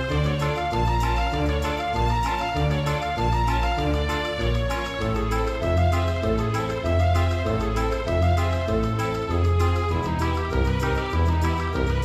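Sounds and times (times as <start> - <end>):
keyboard melody: 0.0 - 12.0
low bass notes: 0.0 - 12.0.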